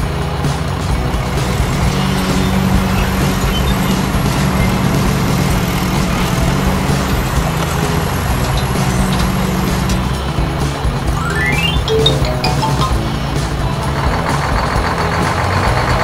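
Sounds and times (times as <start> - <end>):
heavy vehicle engine droning: 0.0 - 16.0.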